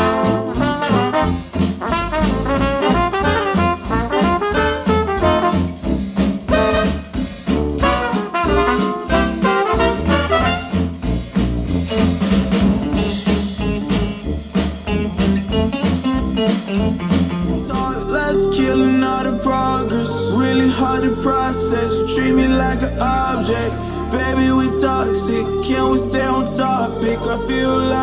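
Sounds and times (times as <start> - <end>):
swing jazz with brass: 0.0 - 25.2.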